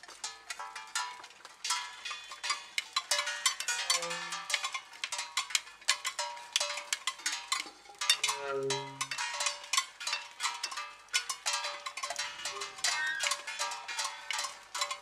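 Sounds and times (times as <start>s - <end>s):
small metal bells clanking: 0.0s - 15.0s.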